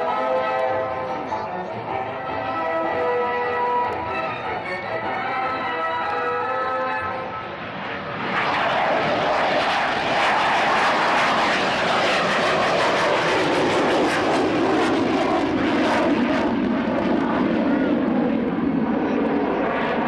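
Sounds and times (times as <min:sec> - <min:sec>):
jet engines roaring in low pass: 0:00.0 - 0:20.0.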